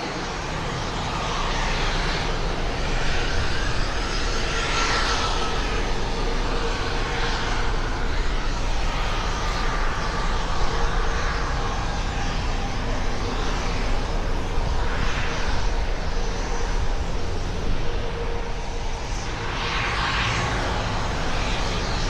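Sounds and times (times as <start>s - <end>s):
aircraft engines roaring: 0.0s - 22.0s
faint steady whine: 0.0s - 22.0s.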